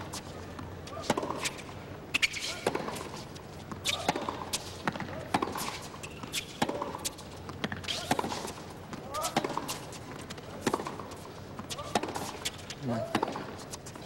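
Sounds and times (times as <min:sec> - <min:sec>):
racquets striking tennis ball: 0:00.1 - 0:14.0
tennis ball bouncing: 0:00.1 - 0:14.0.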